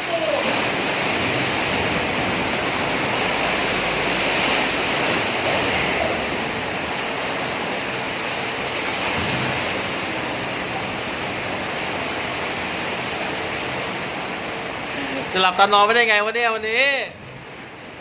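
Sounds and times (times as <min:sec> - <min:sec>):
strong wind: 0:00.0 - 0:15.4
heavy sea around a boat: 0:00.0 - 0:18.0.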